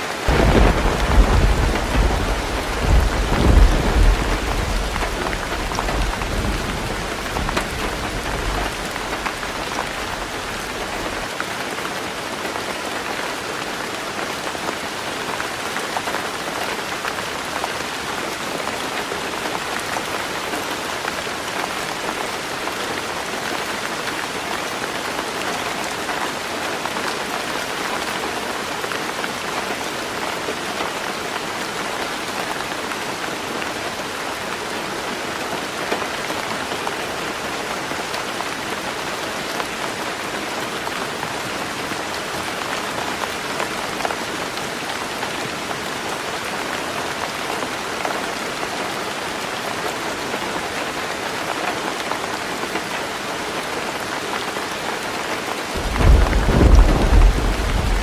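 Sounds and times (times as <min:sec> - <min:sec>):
heavy rain drumming on roof: 0:00.0 - 0:58.0.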